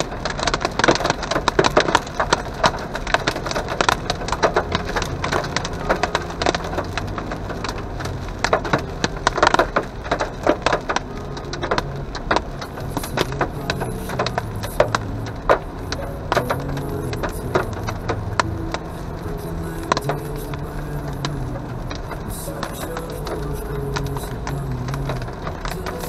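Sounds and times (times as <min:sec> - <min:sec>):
hail clicking on car windshield: 0:00.0 - 0:26.0
tyres droning on wet road: 0:00.0 - 0:26.0.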